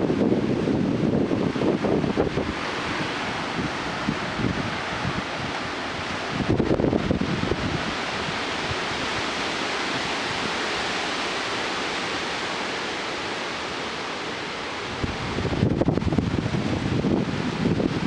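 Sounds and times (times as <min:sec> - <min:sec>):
thunderstorm rushing hiss: 0:00.0 - 0:18.0.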